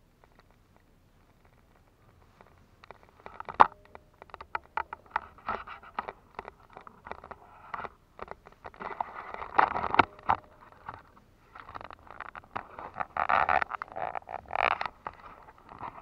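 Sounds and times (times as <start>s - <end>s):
camera handling rustling and knocks: 1.2s - 16.0s.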